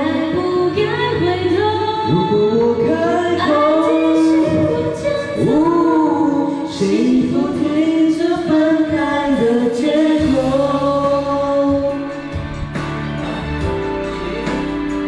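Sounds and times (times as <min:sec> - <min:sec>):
person singing pop ballad: 0:00.0 - 0:15.0.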